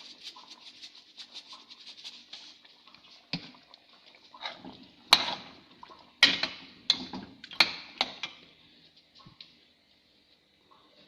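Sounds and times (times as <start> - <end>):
simmering pot hiss: 0.0 - 11.0.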